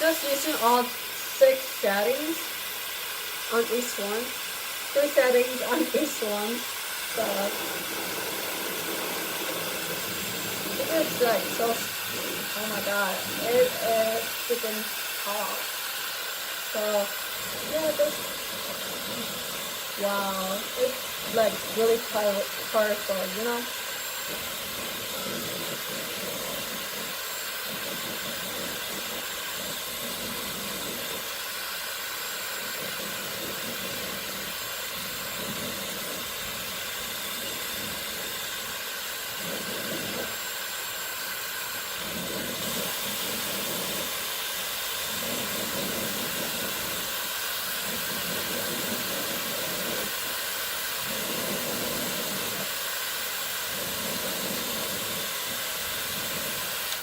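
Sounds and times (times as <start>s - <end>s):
hair dryer rushing air: 0.0s - 57.0s.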